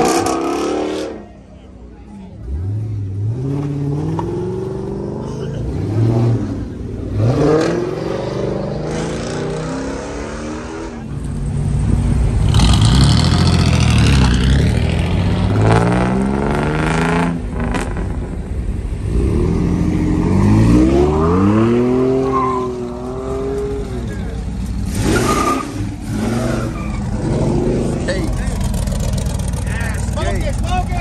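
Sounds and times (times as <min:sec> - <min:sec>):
car engine revving: 0:02.4 - 0:31.0.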